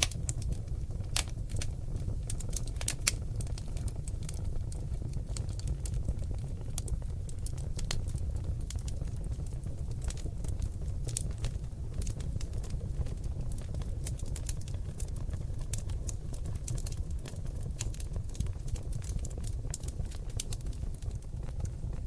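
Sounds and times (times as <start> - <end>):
logs burning with crackles and pops: 0.0 - 22.0.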